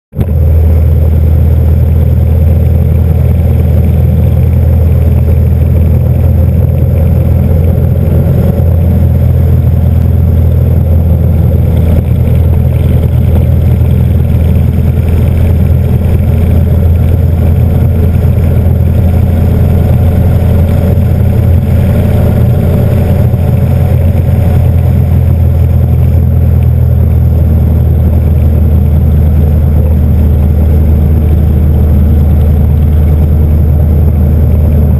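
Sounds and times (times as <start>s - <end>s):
motorcycle engine drone: 0.1s - 34.9s.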